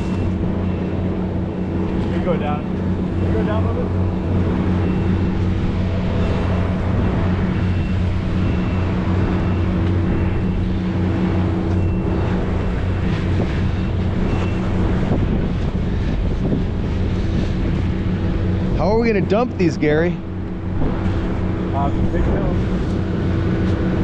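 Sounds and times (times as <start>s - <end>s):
boat engine humming: 0.0s - 24.0s
wind on microphone: 0.0s - 24.0s.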